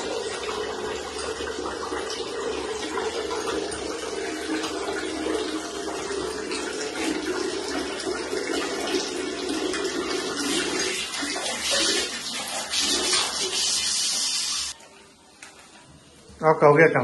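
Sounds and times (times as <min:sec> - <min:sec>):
water running from a tap: 0:00.0 - 0:14.8.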